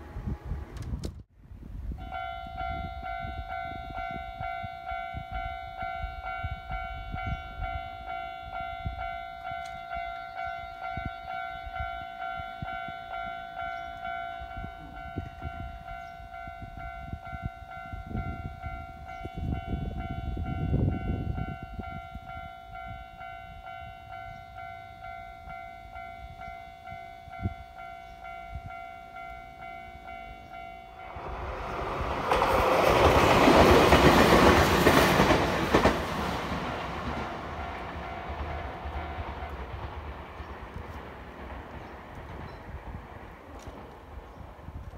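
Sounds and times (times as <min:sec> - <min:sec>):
level crossing warning bell: 0:02.0 - 0:39.9
train wheels on rail: 0:02.0 - 0:44.9.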